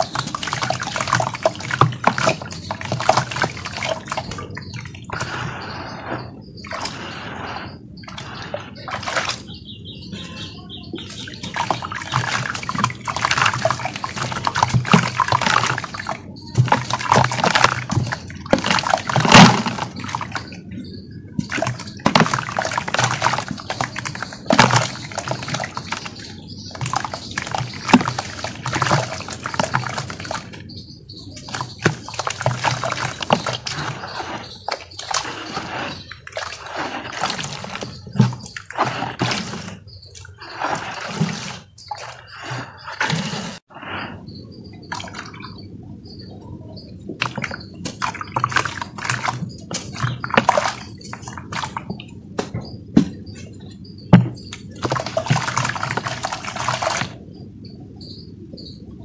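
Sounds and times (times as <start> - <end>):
hands squelching mud in basin: 0.0 - 43.7, 47.1 - 57.2.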